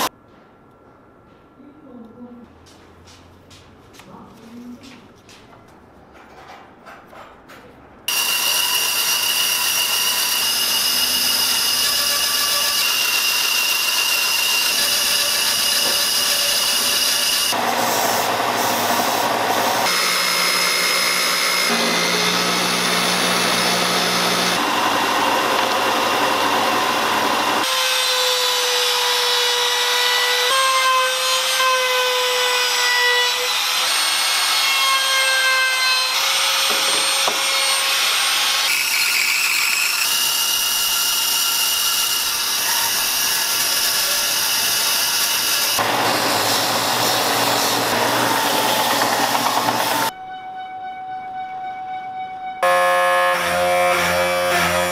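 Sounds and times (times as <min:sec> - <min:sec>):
band saw cutting: 0:08.1 - 0:50.2, 0:52.6 - 0:54.9.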